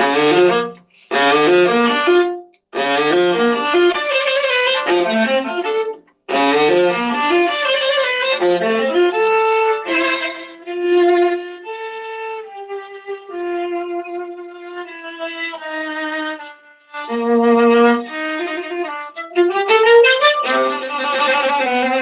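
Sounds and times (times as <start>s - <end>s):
solo viola playing: 0.0s - 22.0s.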